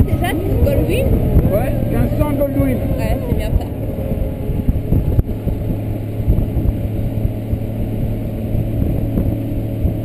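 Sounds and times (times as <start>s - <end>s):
low hum: 0.0s - 10.0s
motorcycle engine cruising: 0.0s - 10.0s
wind rumble on microphone: 0.0s - 10.0s.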